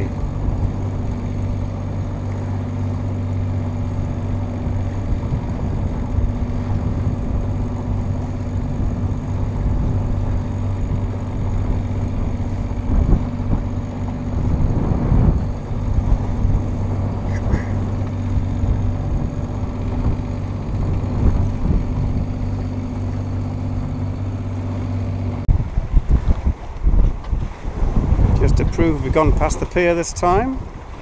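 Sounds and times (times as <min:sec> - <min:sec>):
boat engine humming: 0:00.0 - 0:31.0
water noise: 0:00.0 - 0:31.0
wind noise: 0:00.0 - 0:31.0.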